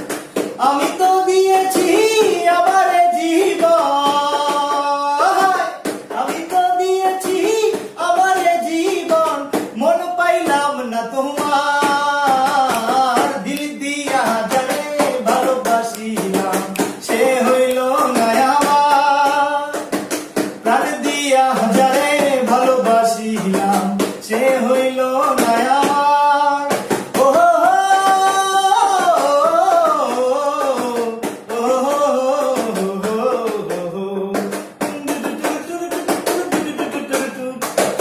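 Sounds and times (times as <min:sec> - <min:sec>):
drum beat: 0:00.0 - 0:38.0
man singing: 0:00.0 - 0:38.0.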